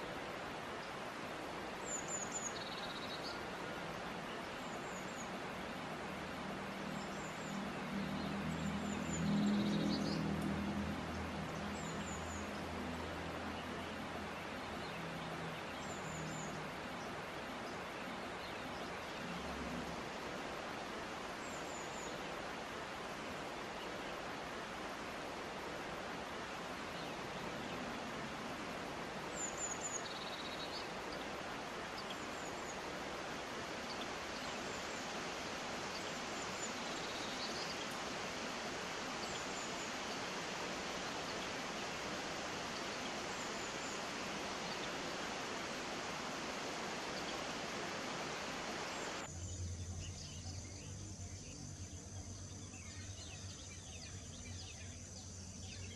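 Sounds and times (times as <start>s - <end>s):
stream rushing: 0.0s - 49.3s.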